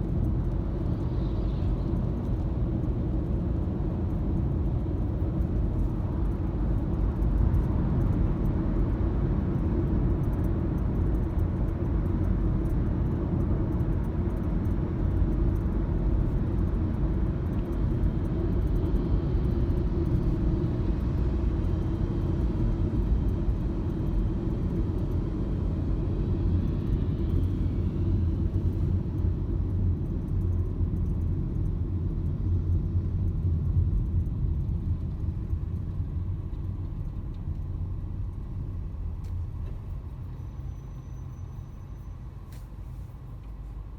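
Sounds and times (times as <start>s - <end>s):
car road and engine rumble: 0.0s - 43.9s.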